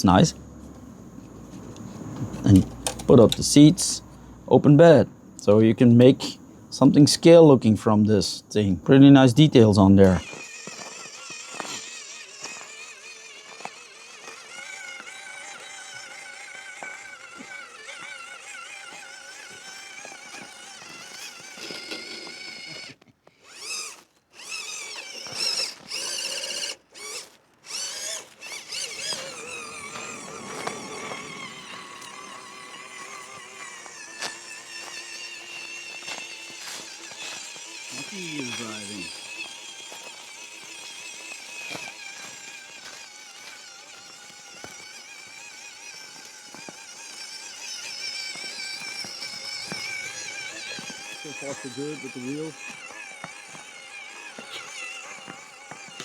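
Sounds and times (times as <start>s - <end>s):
small electric motor whining: 0.0s - 56.0s.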